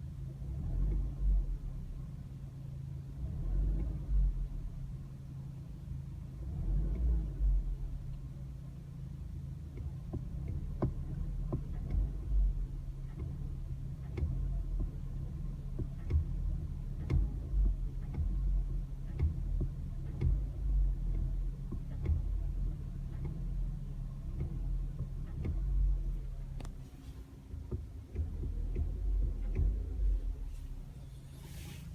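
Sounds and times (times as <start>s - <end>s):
vehicle engine running: 0.0s - 31.9s.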